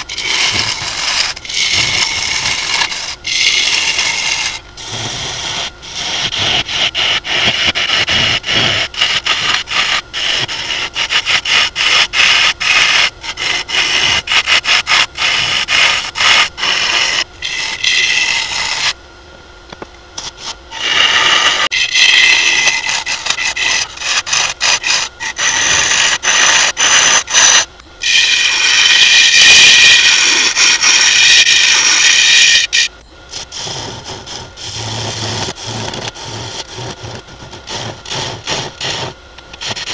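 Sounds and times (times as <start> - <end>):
lathe tool scraping wooden bowl: 0.0 - 19.0, 20.2 - 39.9.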